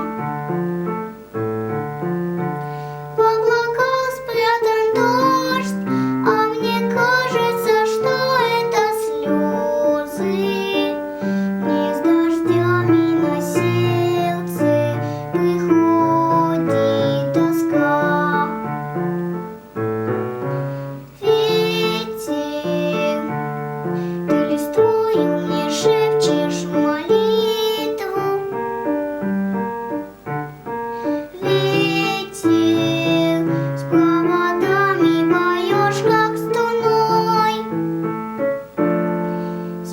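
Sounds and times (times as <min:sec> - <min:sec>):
girl singing with vibrato: 0:00.0 - 0:00.6, 0:02.4 - 0:19.2, 0:20.7 - 0:29.2, 0:30.9 - 0:38.0, 0:39.4 - 0:39.9
piano accompaniment: 0:00.0 - 0:39.9.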